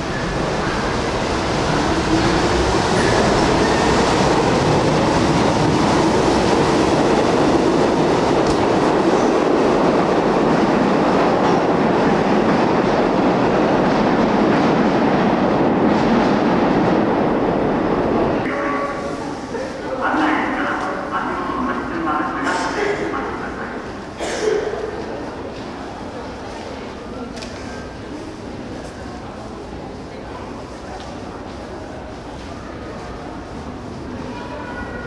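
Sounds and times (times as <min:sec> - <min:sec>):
subway train wheels on track: 0:00.0 - 0:35.0.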